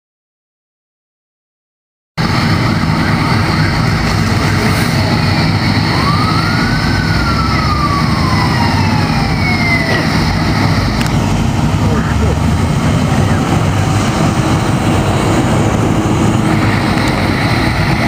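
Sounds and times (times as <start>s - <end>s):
fire engine siren: 2.2s - 18.0s
truck engines rumbling: 2.2s - 18.0s.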